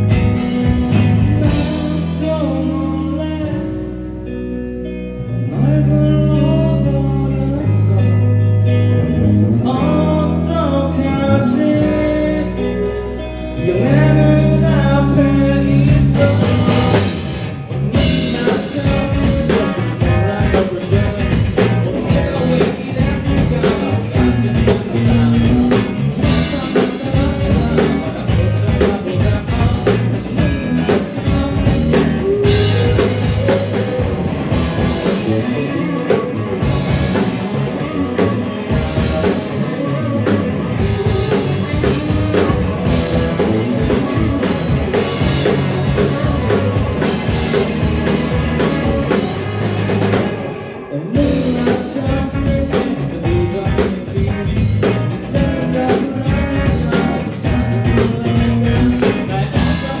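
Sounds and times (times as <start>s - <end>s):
drum kit: 0.0s - 3.7s, 9.2s - 60.0s
live rock band playing: 0.0s - 60.0s.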